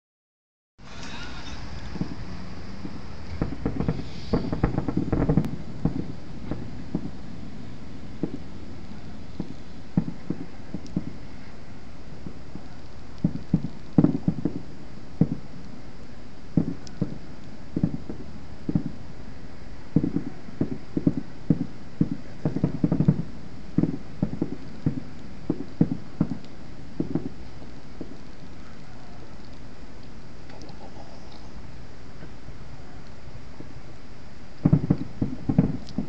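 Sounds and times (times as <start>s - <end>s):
fireworks thudding: 0.8s - 15.8s, 16.4s - 19.2s, 19.9s - 32.5s, 34.5s - 36.0s
steady hiss: 0.8s - 36.0s.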